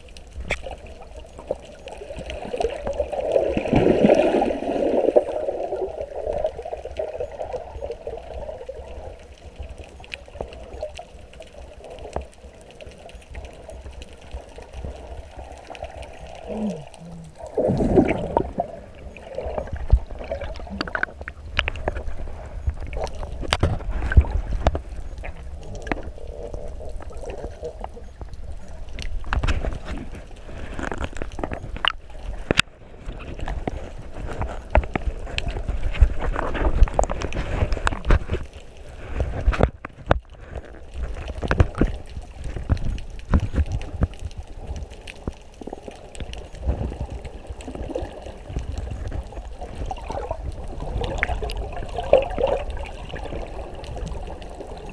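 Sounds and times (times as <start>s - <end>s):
underwater bubbles and gurgling: 0.0s - 54.9s
water churning: 0.0s - 54.9s.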